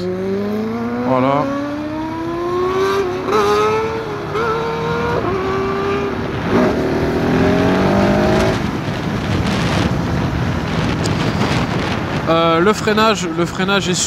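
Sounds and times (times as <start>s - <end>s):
motorcycle engine accelerating: 0.0s - 12.5s
wind rush: 0.0s - 14.0s.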